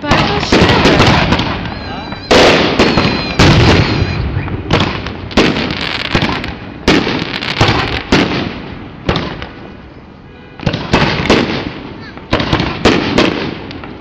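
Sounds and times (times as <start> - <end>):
fireworks booming with echoes: 0.0 - 9.9, 10.6 - 14.0.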